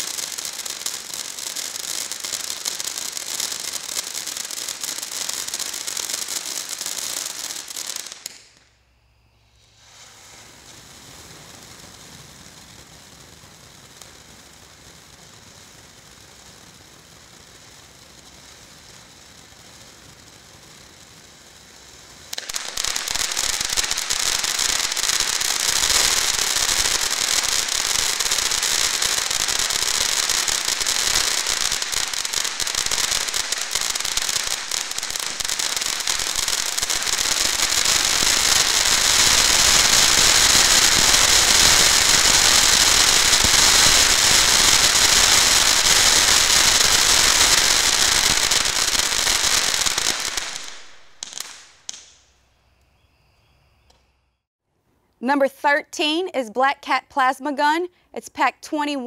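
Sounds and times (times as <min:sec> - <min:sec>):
firework fountain hissing and crackling: 0:00.0 - 0:52.6.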